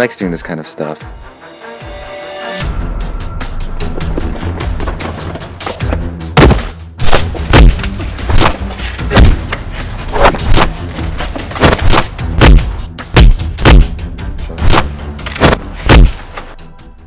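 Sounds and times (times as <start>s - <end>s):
soundtrack music with deep bass: 0.0s - 17.0s.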